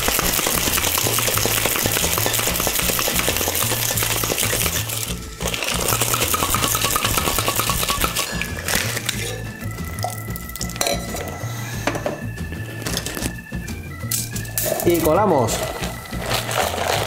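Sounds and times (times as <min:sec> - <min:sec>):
ice rattling in cocktail shaker: 0:00.0 - 0:11.2, 0:14.1 - 0:17.0
background music with bassline: 0:00.0 - 0:17.0.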